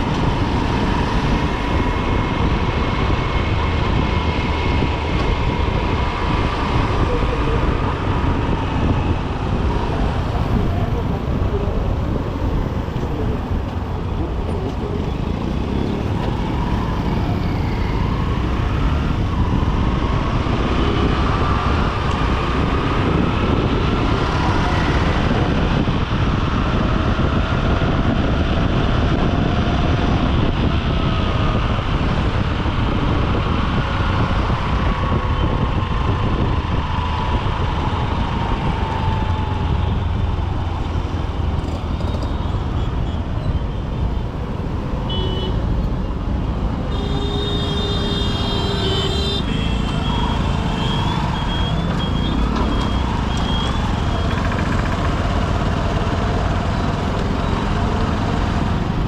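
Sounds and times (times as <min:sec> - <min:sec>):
traffic noise: 0:00.0 - 0:59.0
wind rush on microphone: 0:00.0 - 0:59.0.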